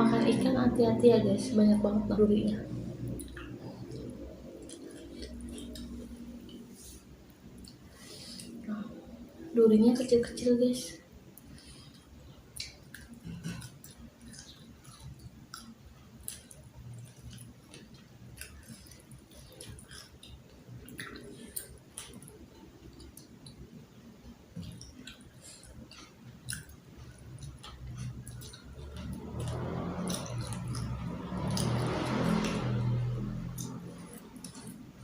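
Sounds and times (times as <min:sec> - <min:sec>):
loud noise with low hum: 0:00.0 - 0:35.0
close chewing and mouth clicks: 0:02.6 - 0:08.6, 0:11.2 - 0:35.0.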